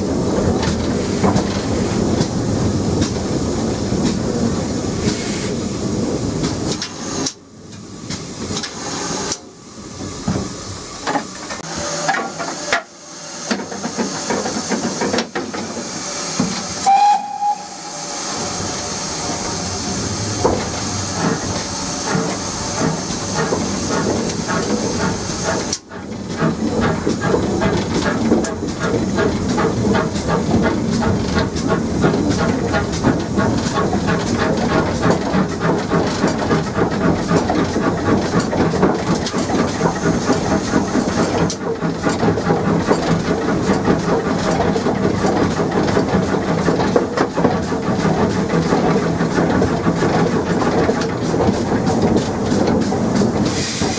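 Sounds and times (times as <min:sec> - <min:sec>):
steam hissing: 0:00.0 - 0:46.8, 0:47.7 - 0:53.9.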